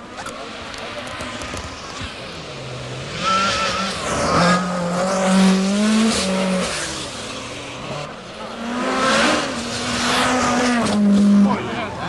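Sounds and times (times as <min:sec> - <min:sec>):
rally car engine revving: 0:00.2 - 0:12.0.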